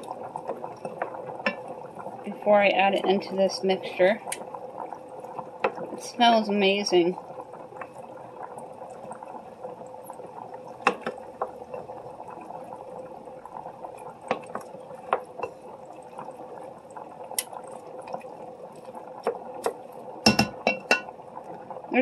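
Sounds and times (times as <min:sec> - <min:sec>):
boiling hiss: 0:00.0 - 0:22.0
thick sauce bubbling: 0:00.0 - 0:22.0.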